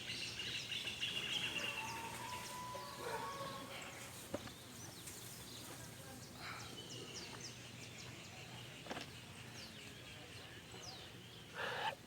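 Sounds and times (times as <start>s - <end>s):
faint outdoor murmur: 0.0s - 12.0s.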